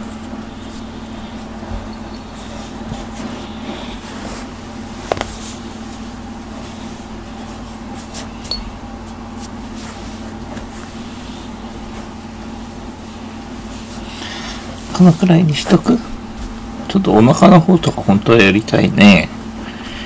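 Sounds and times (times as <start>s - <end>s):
hand rubbing cat fur: 0.0s - 16.7s
low room hum: 0.0s - 20.0s.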